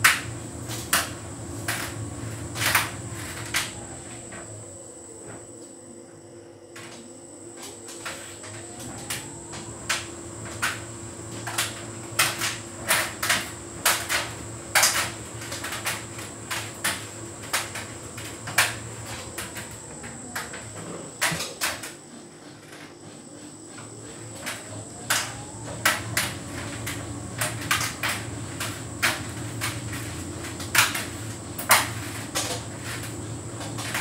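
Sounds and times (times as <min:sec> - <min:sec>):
tumble dryer humming: 0:00.0 - 0:34.0.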